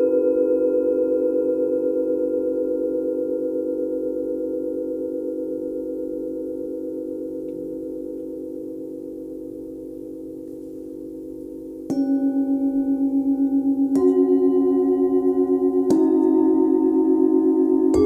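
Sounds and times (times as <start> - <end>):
singing bowls struck and ringing: 0.0 - 18.0.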